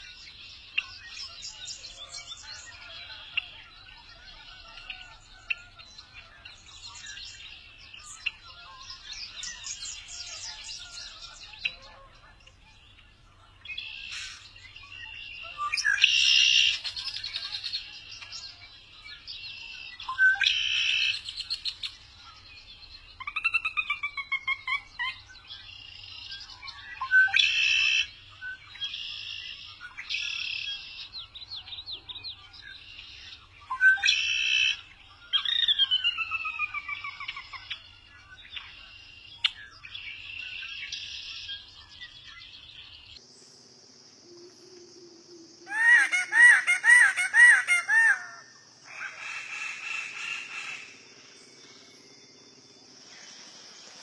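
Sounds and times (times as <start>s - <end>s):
bird calls chatter: 0.0s - 43.2s, 45.7s - 52.4s.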